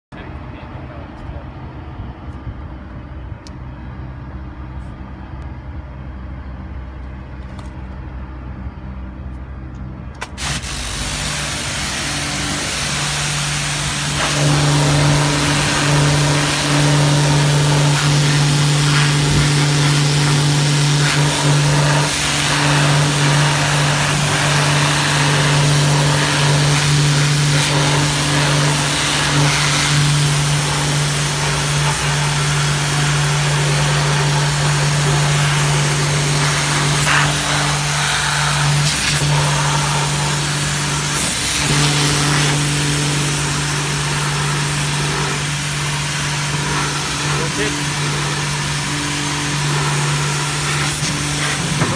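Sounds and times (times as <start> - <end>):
machine hum: 0.1 - 51.9
pressure washer water jet hiss: 10.2 - 51.9.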